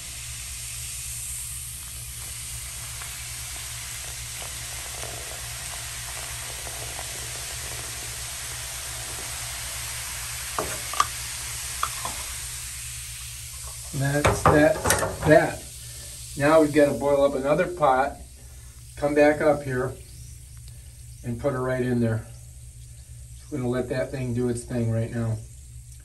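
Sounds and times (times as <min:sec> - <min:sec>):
fizzing hiss in drain: 0:00.0 - 0:26.0.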